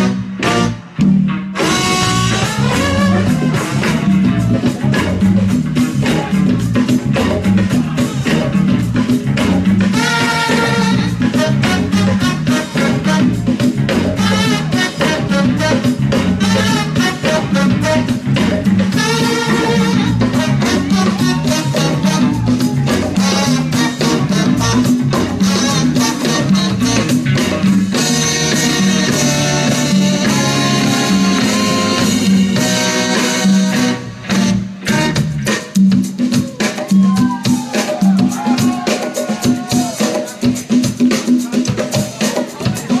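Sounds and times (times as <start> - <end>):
funk band playing: 0.0 - 43.0.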